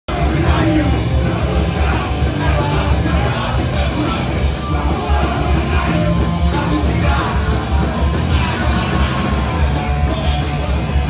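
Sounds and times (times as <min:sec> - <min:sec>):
punk rock band playing: 0:00.1 - 0:11.0.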